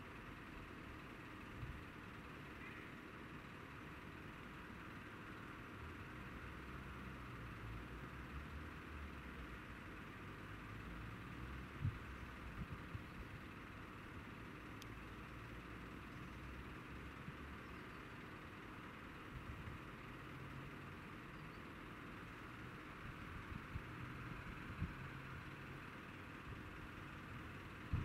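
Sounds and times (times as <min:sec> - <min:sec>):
distant vehicle rumble: 0:00.0 - 0:28.0.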